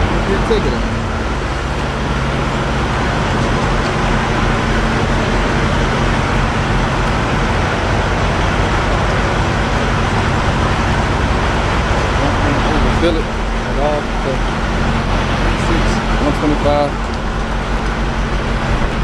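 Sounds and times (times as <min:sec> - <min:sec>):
constant rushing noise: 0:00.0 - 0:19.0
engine humming: 0:00.0 - 0:19.0.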